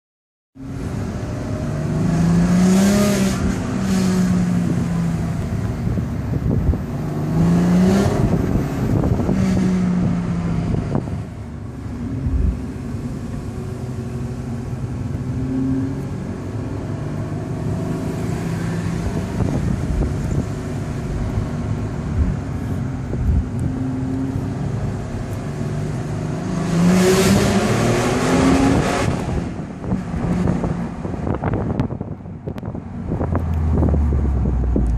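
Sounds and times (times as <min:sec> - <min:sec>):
car engine accelerating hard: 0:00.7 - 0:34.9.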